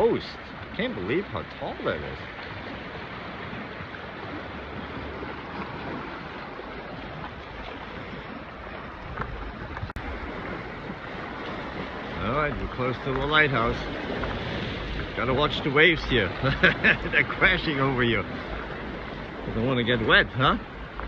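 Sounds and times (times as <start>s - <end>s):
waves breaking against pier: 0.0s - 21.0s
wind on microphone: 0.0s - 21.0s.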